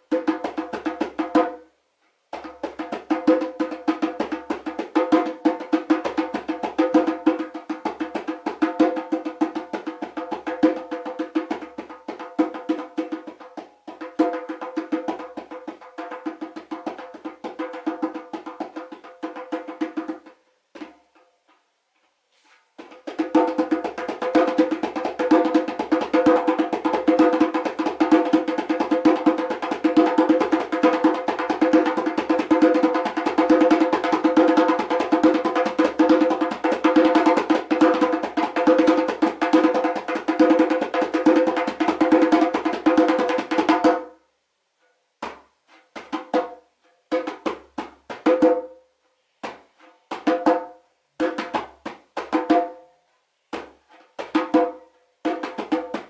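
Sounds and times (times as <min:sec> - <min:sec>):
djembe drumming: 0:00.0 - 0:01.6, 0:02.3 - 0:21.2, 0:22.8 - 0:44.2, 0:45.2 - 0:48.8, 0:49.4 - 0:52.9, 0:53.5 - 0:56.0.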